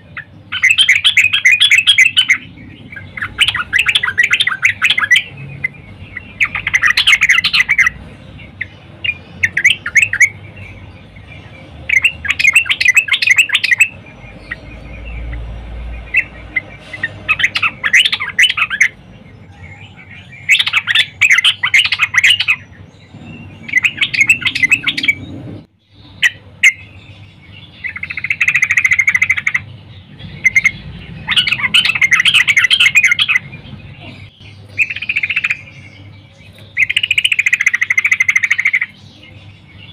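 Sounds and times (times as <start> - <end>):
bird chirping bubbly phrases: 0.0 - 39.9.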